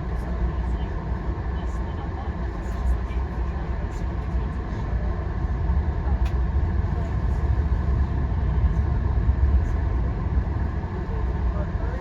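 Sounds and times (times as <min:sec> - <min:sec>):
train rumbling from inside coach: 0:00.0 - 0:12.0.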